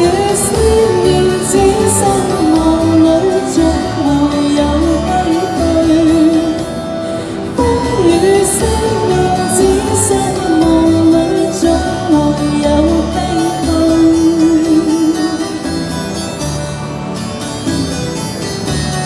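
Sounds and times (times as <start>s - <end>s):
woman singing a ballad: 0.0s - 15.8s
backing music over speaker: 0.0s - 19.0s.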